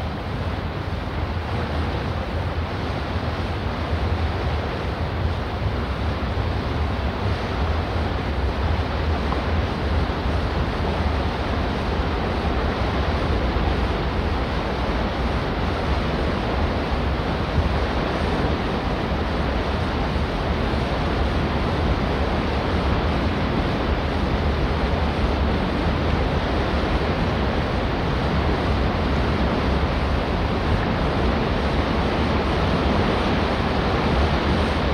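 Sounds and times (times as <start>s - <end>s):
water wash: 0.0s - 34.9s.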